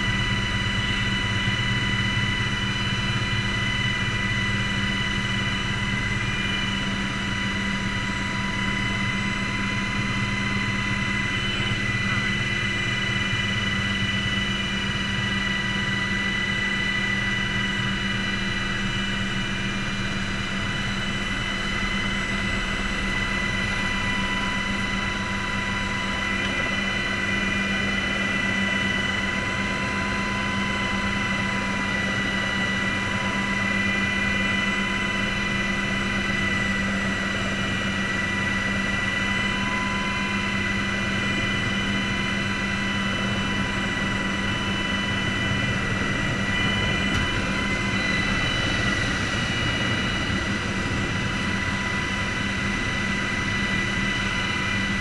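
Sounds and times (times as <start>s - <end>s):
aircraft turbine engines and rotors: 0.0s - 55.0s.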